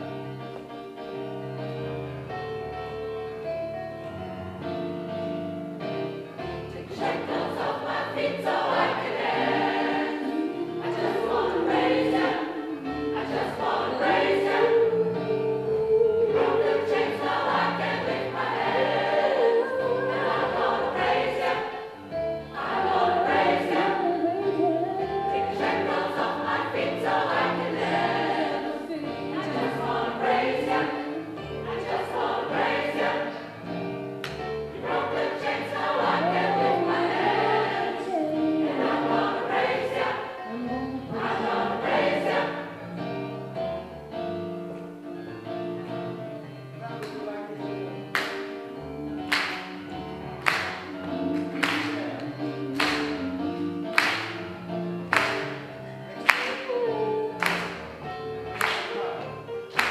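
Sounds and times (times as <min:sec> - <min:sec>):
keyboard accompaniment: 0:00.0 - 0:59.9
gospel choir singing: 0:04.5 - 0:59.9.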